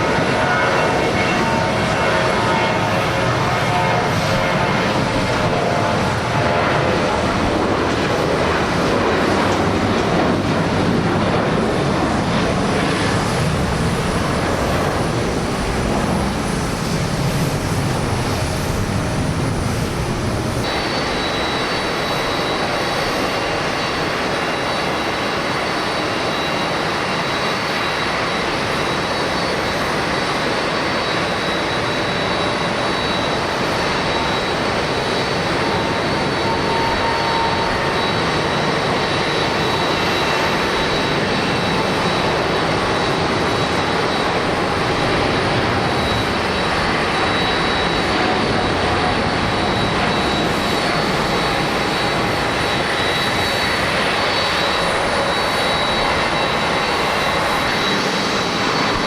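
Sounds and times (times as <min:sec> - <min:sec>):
high jet fan whine: 0:00.0 - 0:59.0
jet engines rumbling: 0:00.0 - 0:59.0.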